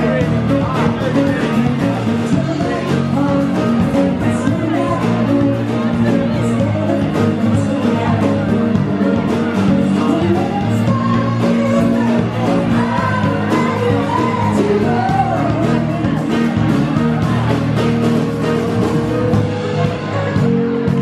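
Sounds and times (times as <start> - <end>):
pop song with singing: 0.0 - 17.5.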